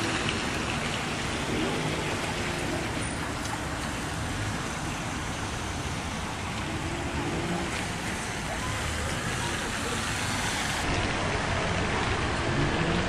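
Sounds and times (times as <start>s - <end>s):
road traffic rushing past: 0.0s - 13.0s.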